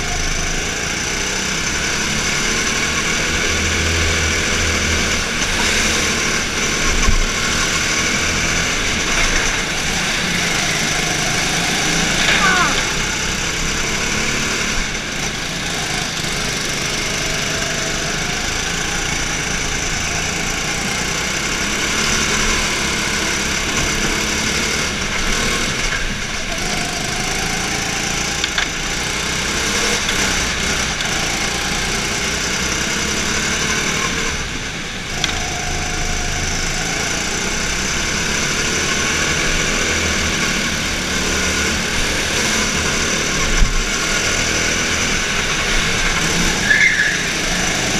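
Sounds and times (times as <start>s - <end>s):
kart engines racing: 0.0s - 47.9s.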